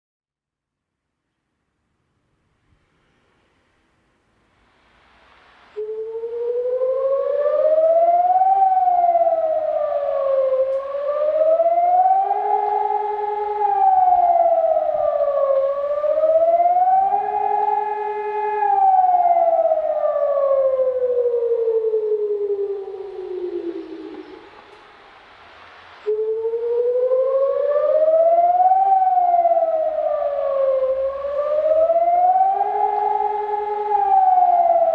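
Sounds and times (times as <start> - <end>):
civil defence siren wailing: 5.7 - 34.9.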